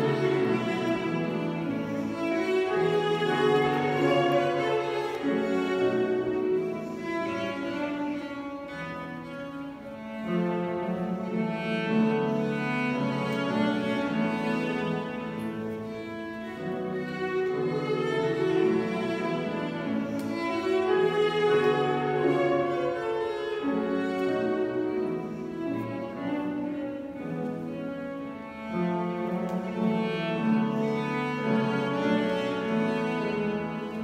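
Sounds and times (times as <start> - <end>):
solo cello bowed melody: 0.0 - 34.0.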